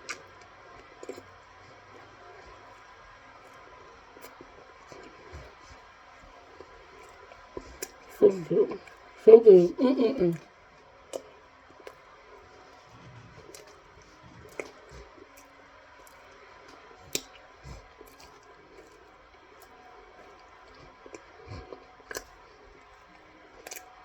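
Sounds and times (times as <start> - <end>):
chewing with squishing and crunching: 0.0 - 24.0.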